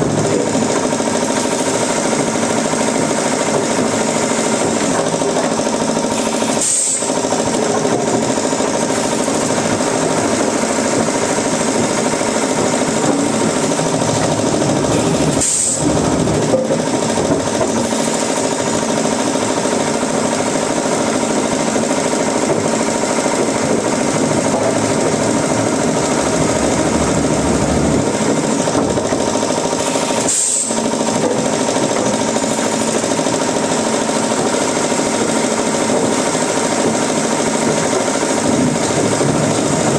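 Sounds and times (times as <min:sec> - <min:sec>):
wood-processing machinery running: 0:00.0 - 0:39.9.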